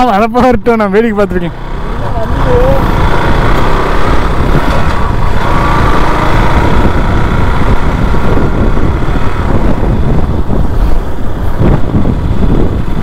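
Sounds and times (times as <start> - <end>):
motorcycle engine running: 0.7 - 13.0
wind rumbling on microphone: 2.2 - 13.0.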